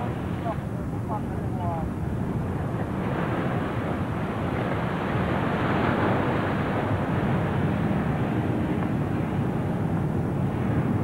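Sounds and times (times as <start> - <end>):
sea waves breaking on rig: 0.0 - 11.0
wind rumbling on microphone: 0.0 - 11.0.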